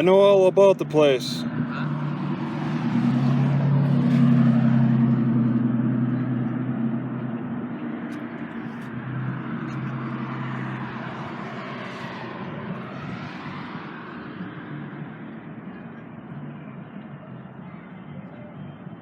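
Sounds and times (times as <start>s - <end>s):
road noise of passing vehicle: 0.0s - 19.0s
vehicle engine hum: 0.0s - 19.0s.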